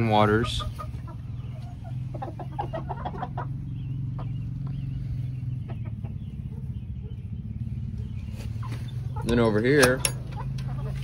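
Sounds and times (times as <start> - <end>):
chickens clucking: 0.0 - 11.0
steady low hum: 0.0 - 11.0.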